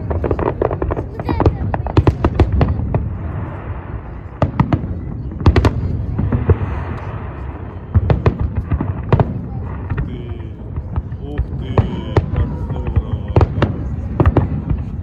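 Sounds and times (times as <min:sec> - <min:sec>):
crackling hiss of fireworks: 0:00.0 - 0:15.0.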